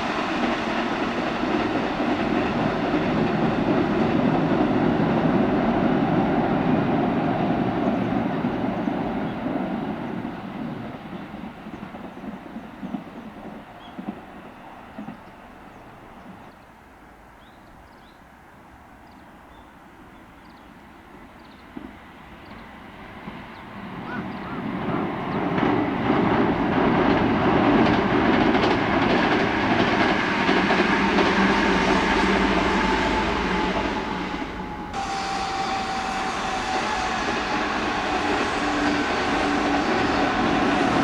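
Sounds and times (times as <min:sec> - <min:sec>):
electric train passing: 0:00.0 - 0:17.3, 0:20.8 - 0:41.0.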